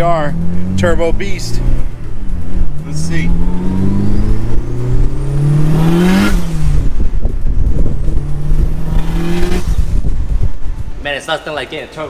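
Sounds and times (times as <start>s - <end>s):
car engine accelerating hard: 0.0s - 10.7s.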